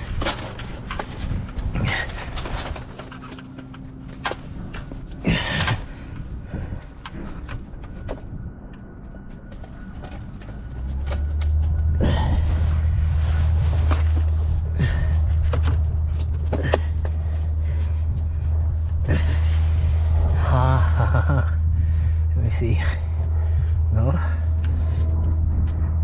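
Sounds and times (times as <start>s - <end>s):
loud low drone: 0.0s - 26.0s.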